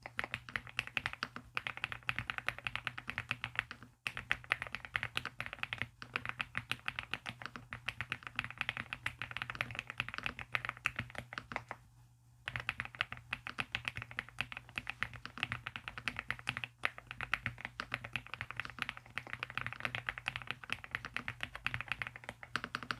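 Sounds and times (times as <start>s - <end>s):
mechanical keyboard typing: 0.0s - 11.8s, 12.5s - 22.9s.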